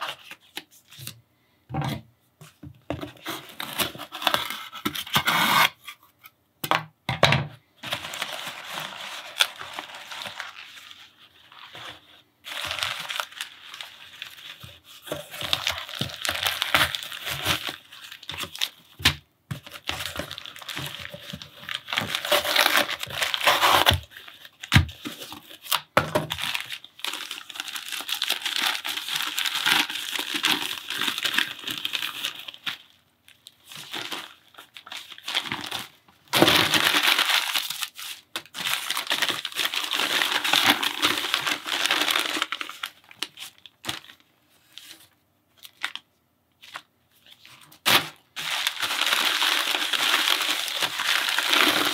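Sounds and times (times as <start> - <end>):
paper and plastic crumpling: 7.8 - 51.9.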